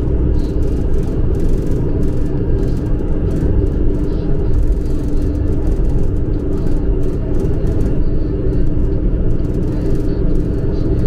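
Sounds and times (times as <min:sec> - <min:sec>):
even hum: 0:00.0 - 0:11.0
light rattles: 0:00.0 - 0:11.0
train rumble inside carriage: 0:00.0 - 0:11.0.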